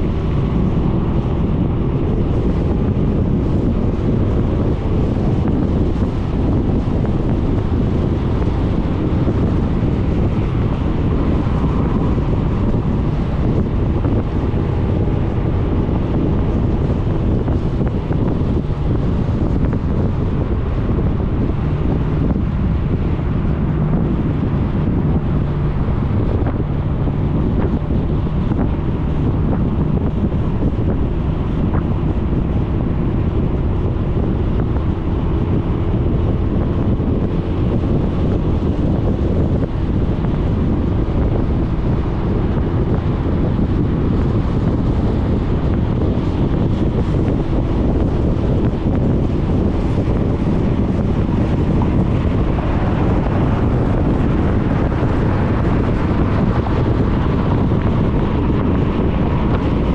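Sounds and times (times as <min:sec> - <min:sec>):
scooter engine drone: 0:00.0 - 0:59.9
wind buffeting microphone: 0:00.0 - 0:59.9.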